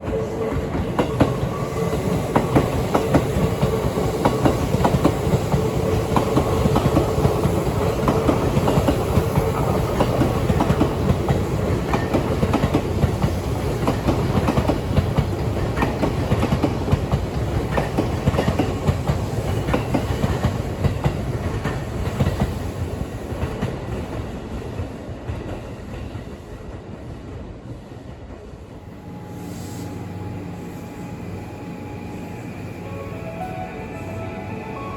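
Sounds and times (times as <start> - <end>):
train rumbling on rails: 0.0 - 34.9.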